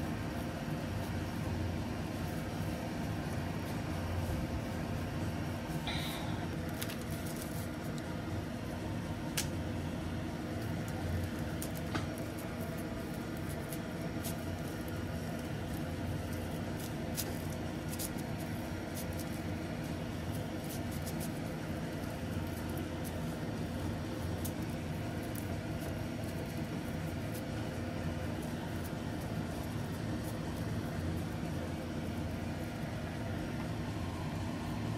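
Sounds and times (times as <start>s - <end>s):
steady mechanical hum: 0.0s - 34.9s
fingers squishing rice: 6.5s - 34.9s.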